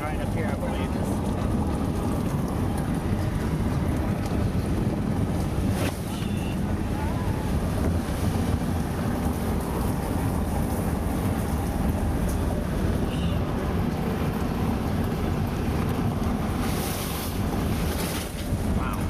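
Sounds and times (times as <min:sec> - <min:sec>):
vehicle driving rumble: 0:00.0 - 0:19.0
wind buffeting microphone: 0:00.1 - 0:19.0.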